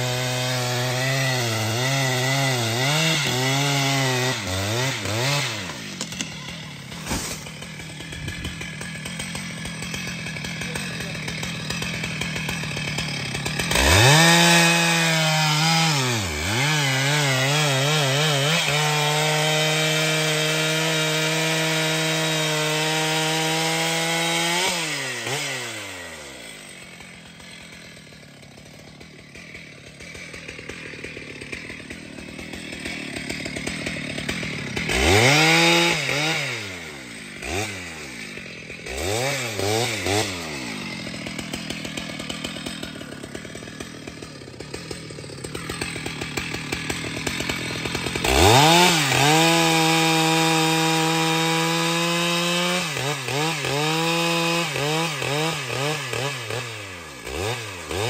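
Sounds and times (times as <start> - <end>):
chainsaw cutting a log: 0.0 - 58.0
chainsaw revving: 0.0 - 58.0.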